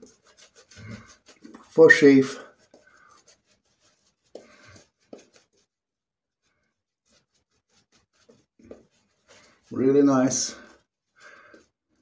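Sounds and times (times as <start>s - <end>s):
shaving brush swishing lather: 0.0s - 5.8s, 6.4s - 12.0s.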